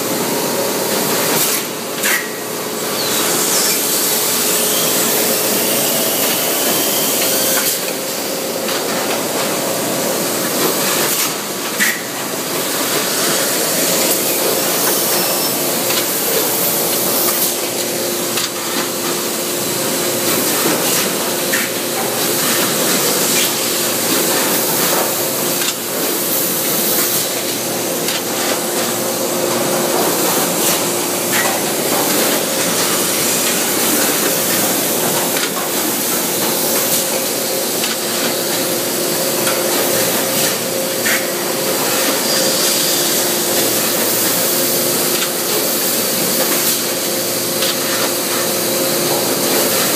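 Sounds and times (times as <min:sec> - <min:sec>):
machine hissing: 0:02.8 - 0:08.3, 0:12.7 - 0:49.9.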